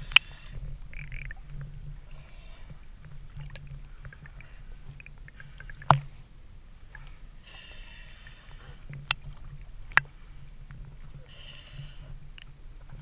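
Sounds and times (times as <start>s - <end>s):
sea water lapping: 0.0s - 13.0s.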